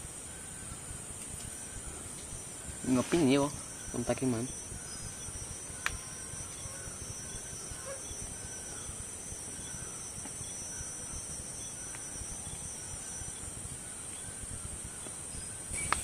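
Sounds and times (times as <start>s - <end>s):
insect chirp: 0.0s - 16.0s
insect high-pitched drone: 0.0s - 16.0s.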